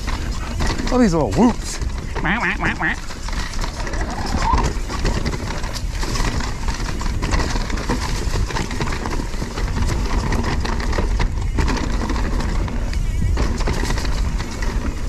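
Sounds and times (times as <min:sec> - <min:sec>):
bike clicking and rattling: 0:00.0 - 0:15.0
bike tyres rolling over dirt: 0:00.0 - 0:15.0.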